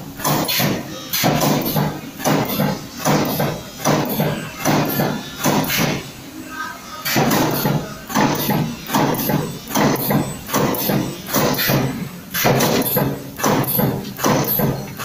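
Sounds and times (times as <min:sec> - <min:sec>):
spot-welding machine welding: 0:00.0 - 0:06.1, 0:07.1 - 0:15.0.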